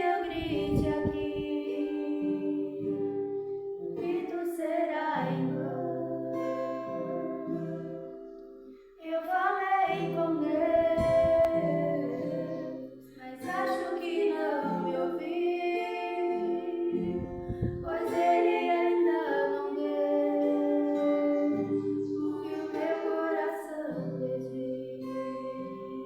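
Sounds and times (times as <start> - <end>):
acoustic guitar: 0.0 - 26.0
women singing a hymn: 0.0 - 26.0.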